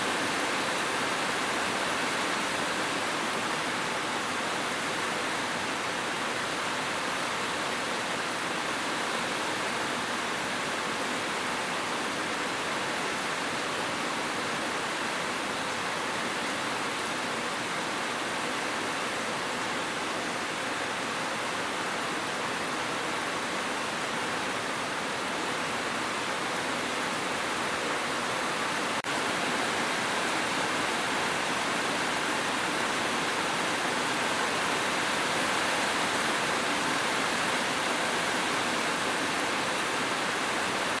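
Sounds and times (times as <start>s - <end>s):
rain hiss: 0.0s - 41.0s.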